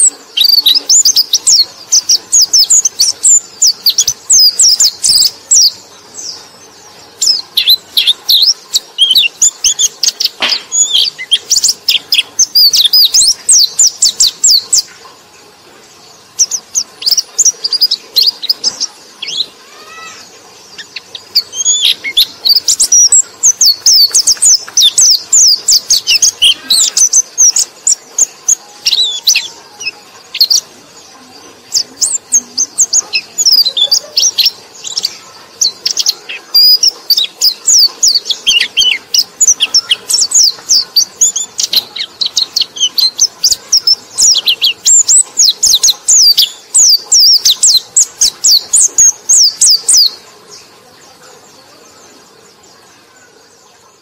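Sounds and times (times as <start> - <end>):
bird high-pitched twittering: 0.0 - 54.0.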